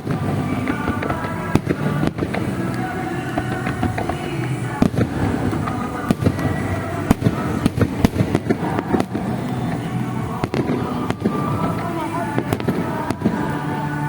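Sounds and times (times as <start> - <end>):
fireworks cracking and banging: 0.0 - 14.0.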